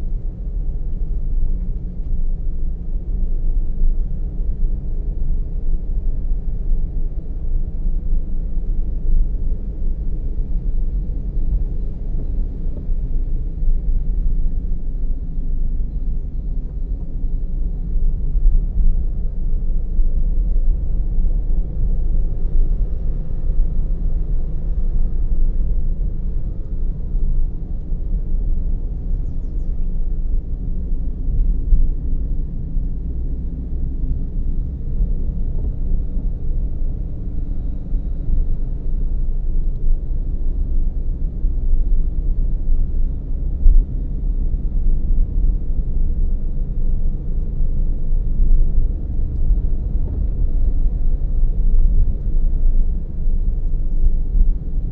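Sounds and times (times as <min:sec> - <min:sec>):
car driving rumble: 0:00.0 - 0:54.9.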